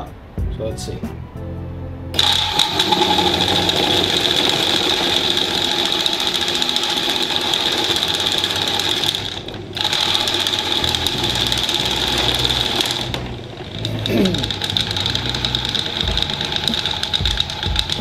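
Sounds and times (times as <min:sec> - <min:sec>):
fan motor buzzing and rattling: 0:02.2 - 0:18.0.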